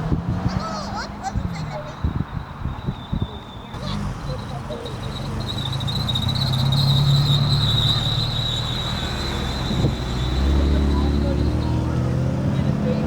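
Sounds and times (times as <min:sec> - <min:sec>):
deeper engine rumble: 0:00.0 - 0:13.0.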